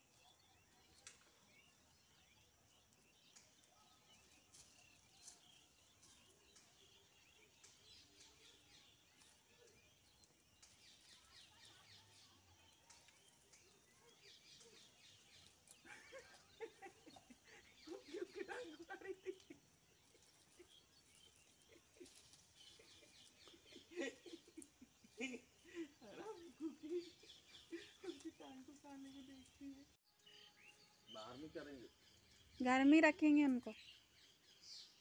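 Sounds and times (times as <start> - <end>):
distant bird chirps: 0.0 - 35.0.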